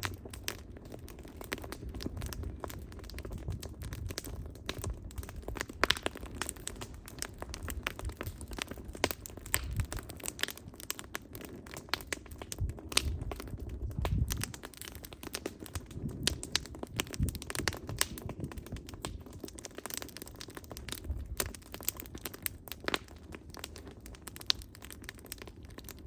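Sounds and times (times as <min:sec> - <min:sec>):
low rumble of flame: 0:00.0 - 0:26.0
wood fire crackling: 0:00.0 - 0:26.0.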